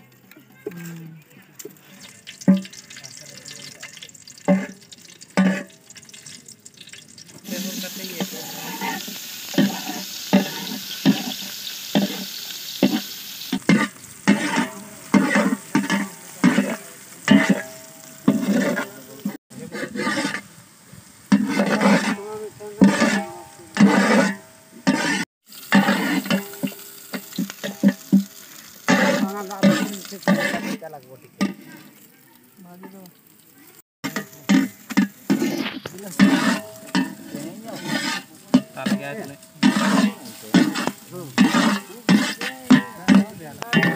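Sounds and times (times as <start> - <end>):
hot oil sizzling: 0.0 - 43.9
metal spatula scraping pot: 1.6 - 20.5, 21.2 - 32.2, 34.0 - 43.9.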